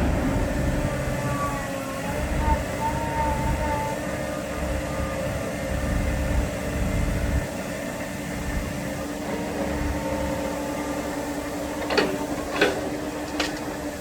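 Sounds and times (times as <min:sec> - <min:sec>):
low engine rumble: 0:00.0 - 0:14.0
vehicle engine hum: 0:00.0 - 0:14.0.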